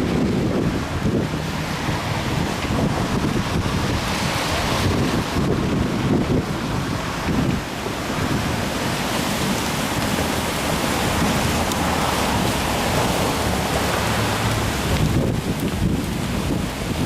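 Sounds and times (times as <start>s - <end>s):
river rushing: 0.0s - 17.0s
wind buffeting microphone: 0.0s - 17.0s.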